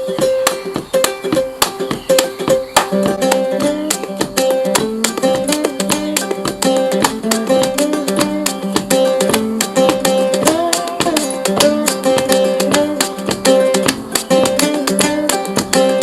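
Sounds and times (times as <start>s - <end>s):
acoustic guitar picking: 0.0s - 16.0s
held bass notes: 0.0s - 16.0s.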